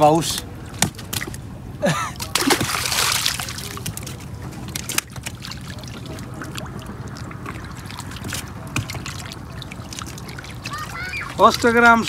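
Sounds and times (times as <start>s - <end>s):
low steady hum: 0.0s - 12.0s
water splashing and dripping: 2.1s - 12.0s.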